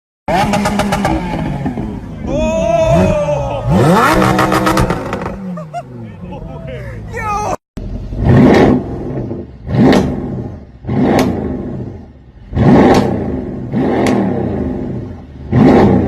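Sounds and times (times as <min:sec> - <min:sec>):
car engine revving: 0:00.3 - 0:06.5, 0:07.8 - 0:16.0.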